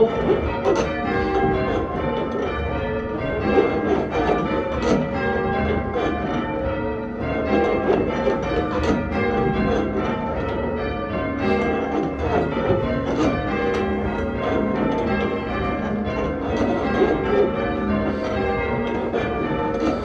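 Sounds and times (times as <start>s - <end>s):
church bells ringing changes: 0.0s - 20.0s.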